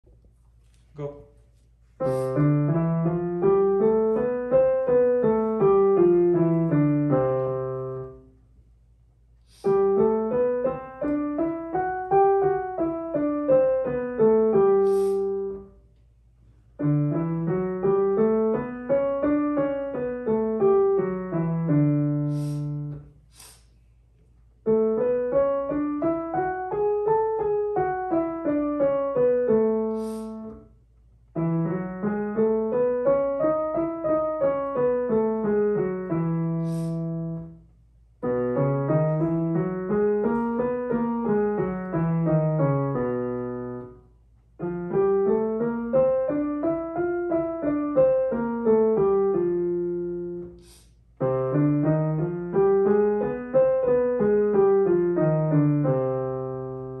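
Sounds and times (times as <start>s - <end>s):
piano scales: 0.1s - 8.6s, 9.6s - 23.2s, 24.3s - 57.0s.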